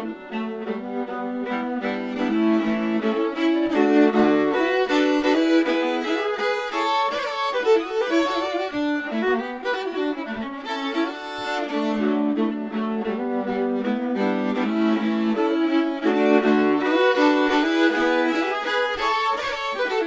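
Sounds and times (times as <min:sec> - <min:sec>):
two fiddles playing folk music: 0:00.0 - 0:20.0.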